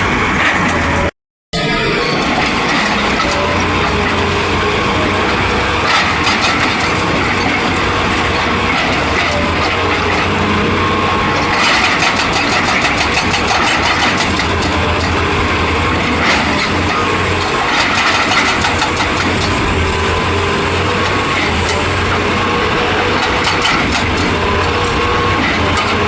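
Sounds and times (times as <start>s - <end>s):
diesel engine running: 0.0s - 26.0s
hydraulic breaker hammering: 2.1s - 26.0s.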